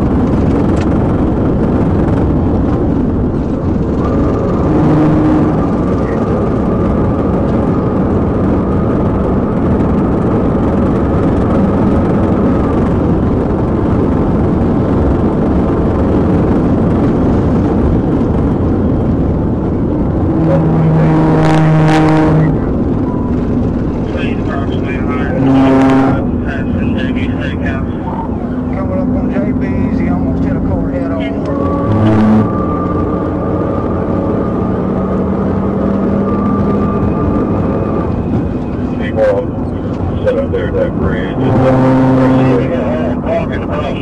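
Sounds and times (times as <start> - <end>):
car driving roar: 0.0 - 44.0
steady tones: 0.0 - 44.0.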